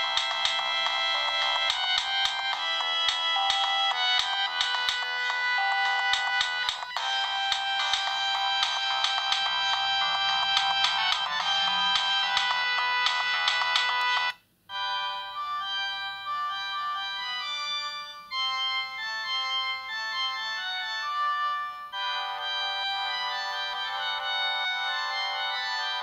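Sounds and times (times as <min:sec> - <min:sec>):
bright busy ringtone tune: 0:00.0 - 0:26.0
slower polyphonic ringtone melody: 0:00.0 - 0:26.0.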